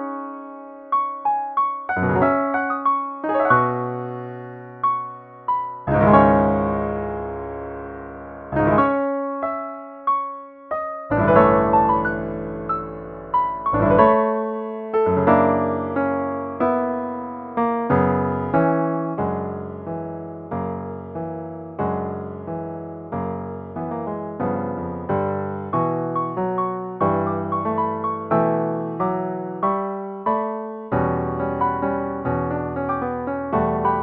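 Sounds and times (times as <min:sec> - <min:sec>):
deep bass piano chords: 0:00.0 - 0:34.0
solo piano playing: 0:00.0 - 0:34.0.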